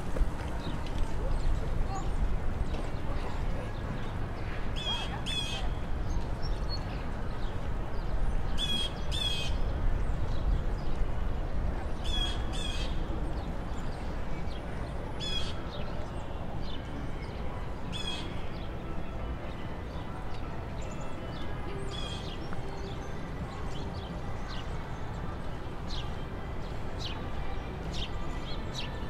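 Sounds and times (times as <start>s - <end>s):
low city rumble: 0.0s - 29.0s.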